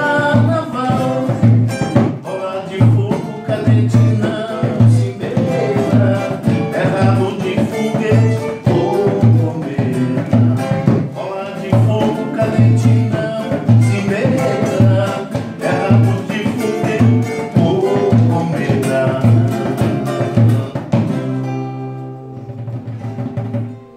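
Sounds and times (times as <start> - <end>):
acoustic guitars strumming: 0.0 - 23.9
wooden hand drum beating: 0.0 - 23.9.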